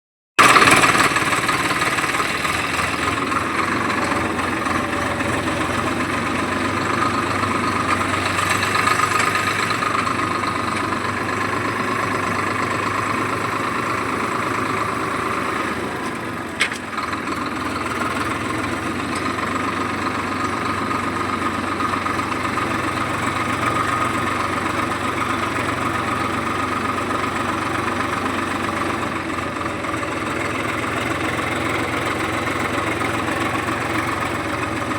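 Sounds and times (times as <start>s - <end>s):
diesel engine idling: 0.4s - 34.9s.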